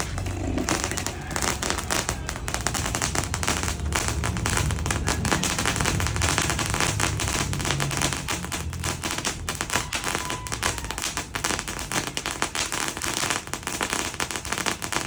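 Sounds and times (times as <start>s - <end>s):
firecracker pops and crackles: 0.0s - 15.0s.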